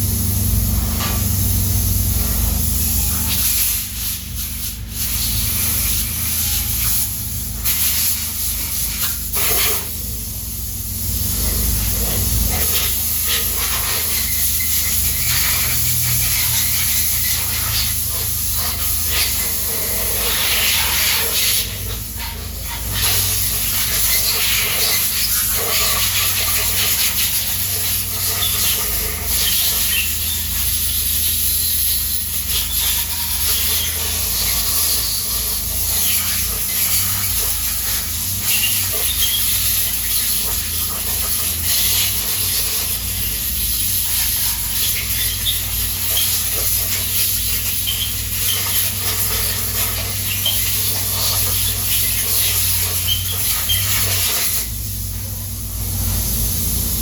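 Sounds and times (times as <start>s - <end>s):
loud steady spray hiss: 0.0s - 57.0s.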